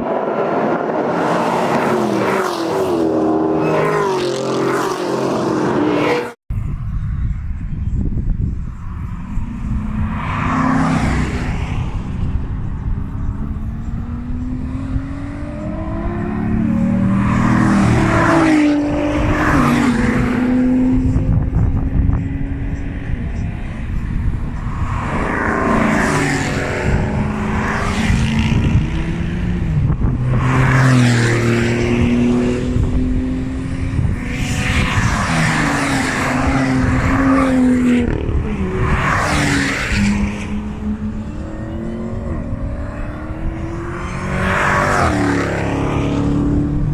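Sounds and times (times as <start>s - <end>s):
cars accelerating past: 0.0s - 6.4s, 9.0s - 46.9s
engines revving: 0.0s - 6.4s, 8.8s - 46.9s.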